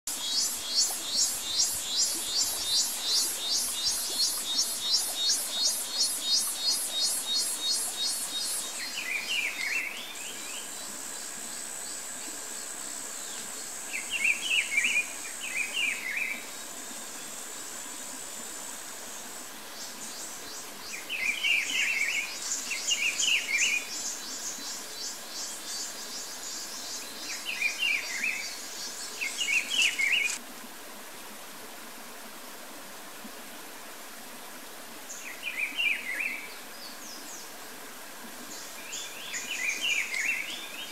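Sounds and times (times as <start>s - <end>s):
insects buzzing and trilling: 0.1s - 30.4s, 34.7s - 40.9s.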